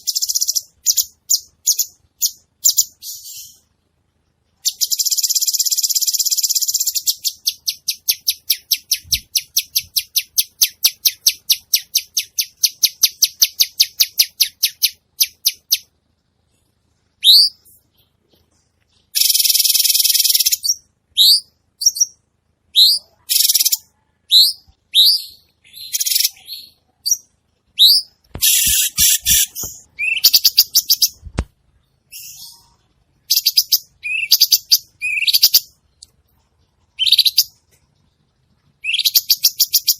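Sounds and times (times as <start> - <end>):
songbird singing: 0.0 - 3.7, 4.6 - 15.9, 17.2 - 39.9.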